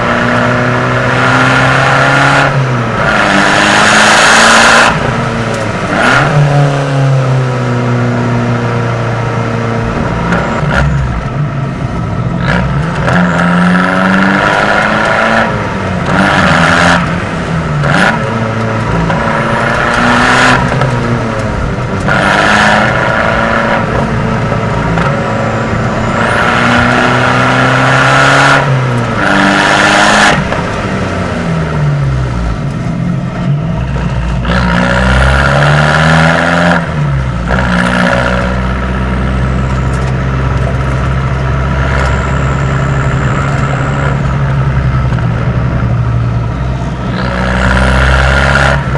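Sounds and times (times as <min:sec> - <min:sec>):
car engine revving through gears: 0:00.0 - 0:48.9
loud exhaust surges: 0:00.0 - 0:48.9.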